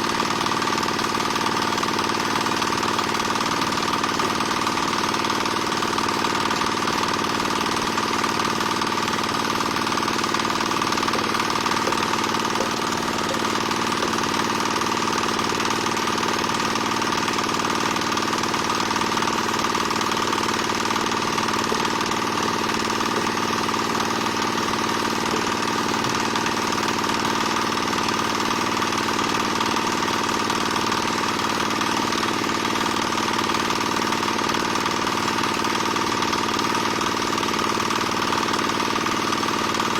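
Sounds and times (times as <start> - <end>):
small diesel engine running: 0.0 - 39.9.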